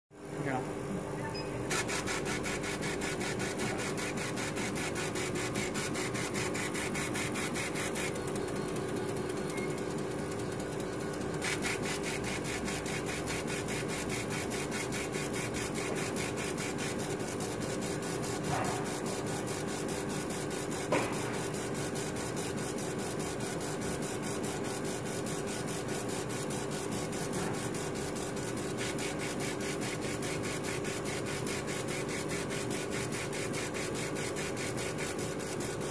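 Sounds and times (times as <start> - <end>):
steady machine hum: 0.2 - 35.9.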